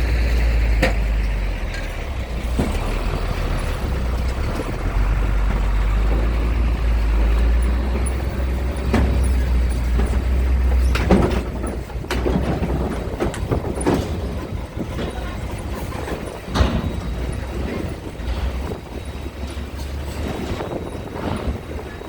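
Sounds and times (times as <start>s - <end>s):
metallic clanks and knocks: 0.8s - 22.0s
wind buffeting microphone: 2.2s - 22.0s.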